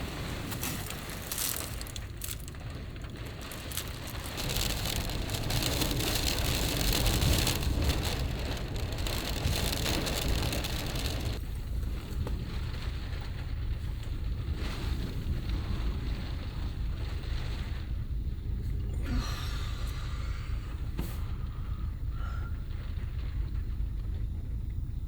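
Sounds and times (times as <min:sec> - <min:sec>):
heavy rain pounding on van: 0:00.0 - 0:25.0
low rumble: 0:00.0 - 0:25.0.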